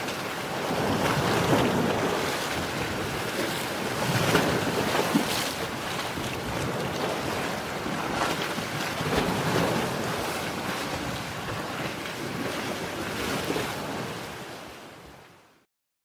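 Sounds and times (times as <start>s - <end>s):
wind noise on microphone: 0.0s - 15.2s
waves washing in: 0.0s - 15.6s.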